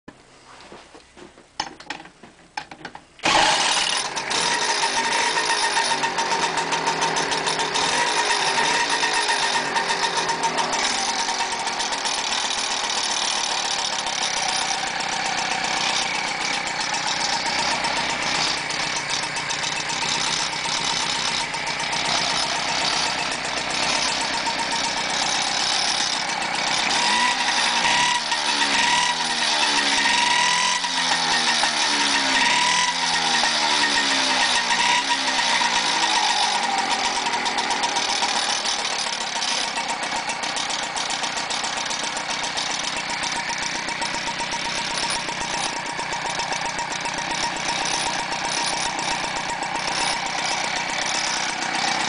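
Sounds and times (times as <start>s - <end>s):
moped engine running: 3.2s - 52.0s.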